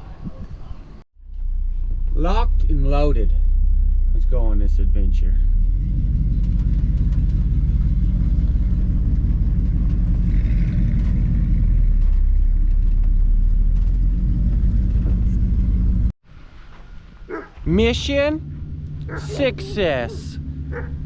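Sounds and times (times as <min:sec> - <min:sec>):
truck engine and road rumble: 0:00.0 - 0:21.0.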